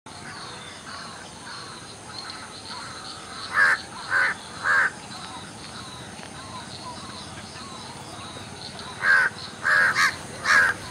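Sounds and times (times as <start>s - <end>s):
loud bird calls: 0.1s - 10.9s
wild birds calling: 0.1s - 10.9s.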